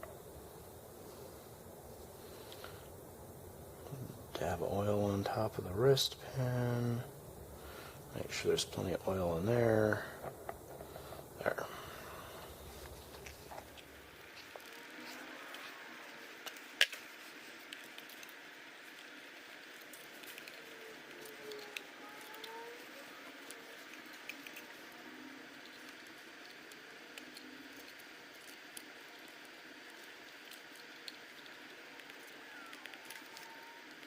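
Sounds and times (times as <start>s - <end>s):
faint hiss: 0.0s - 34.0s.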